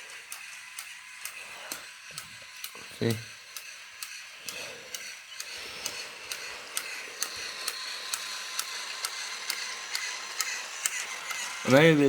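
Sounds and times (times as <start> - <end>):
toy train clicking: 0.0 - 12.0
toy train motor whirring: 0.0 - 12.0.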